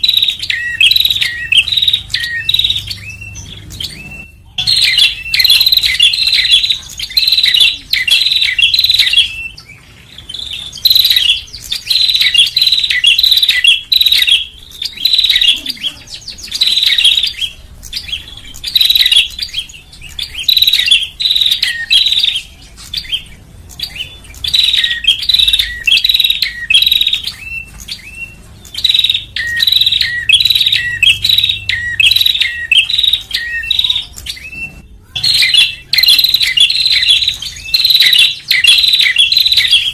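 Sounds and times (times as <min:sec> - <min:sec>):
bird sharp chirping calls: 0:00.0 - 0:39.9.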